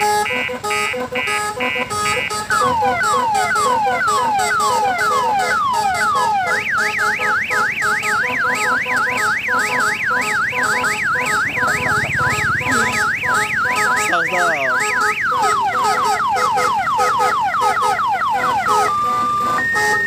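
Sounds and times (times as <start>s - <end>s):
electronic horn warbling siren: 0.0s - 20.0s
looping electronic tune: 0.0s - 20.0s.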